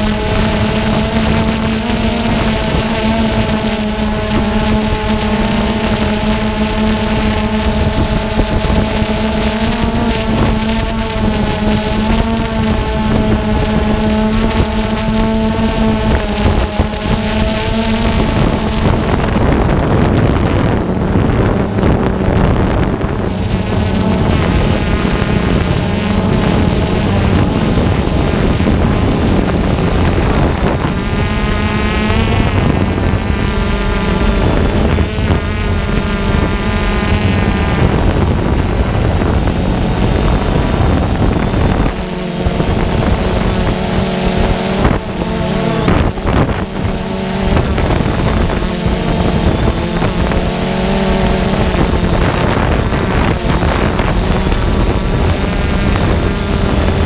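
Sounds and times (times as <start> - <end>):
drone motors buzzing: 0.0 - 57.0
wind on microphone: 0.0 - 57.0.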